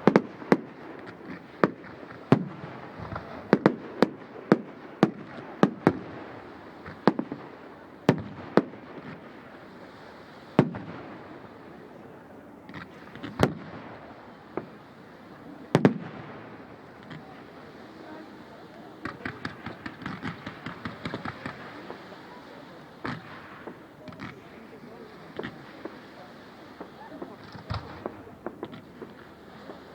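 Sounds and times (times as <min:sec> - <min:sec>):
fireworks bangs: 0:00.0 - 0:29.9.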